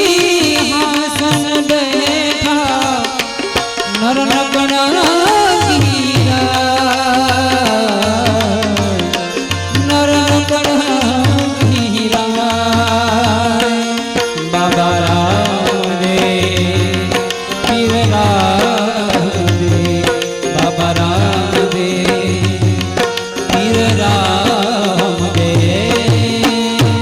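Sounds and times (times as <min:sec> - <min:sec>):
harmonium melody: 0:00.0 - 0:27.0.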